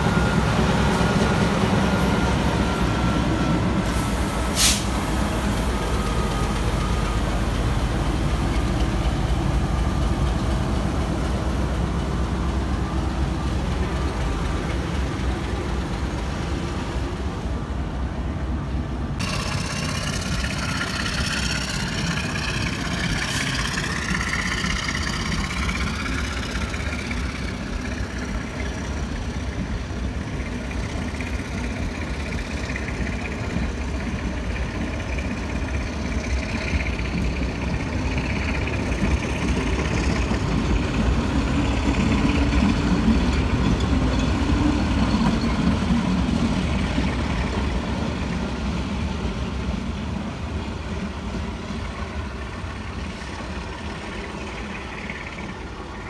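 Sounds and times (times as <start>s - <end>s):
diesel engine rumble: 0.0s - 56.0s
train coaches rolling on rails: 0.0s - 56.0s.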